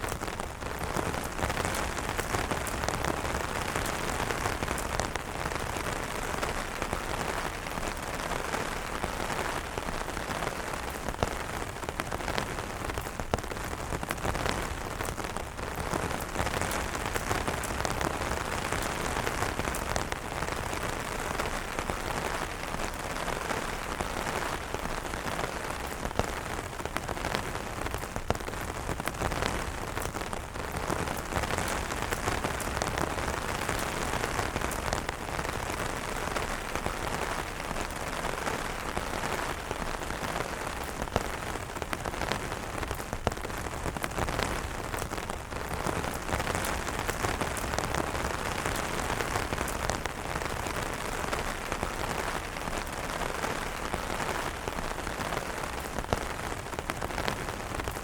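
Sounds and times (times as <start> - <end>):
rain falling on an umbrella: 0.0 - 58.0.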